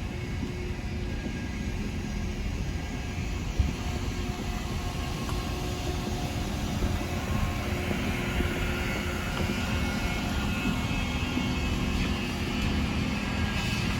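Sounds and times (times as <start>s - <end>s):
engine drone: 0.0s - 13.9s
faint steady tones: 0.0s - 13.9s.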